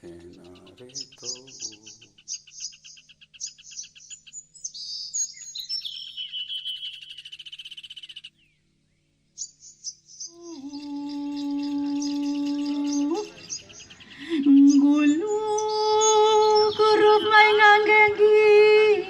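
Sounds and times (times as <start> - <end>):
birds singing in chirping trills: 0.0 - 19.0
long buzzy bird trill: 0.0 - 19.0.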